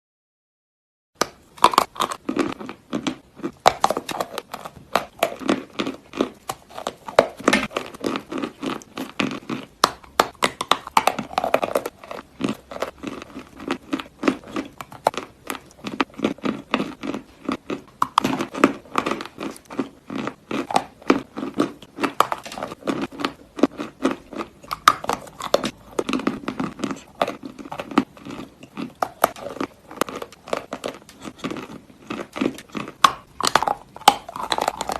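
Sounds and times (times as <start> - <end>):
crunching and chewing dry clay: 1.2 - 34.9.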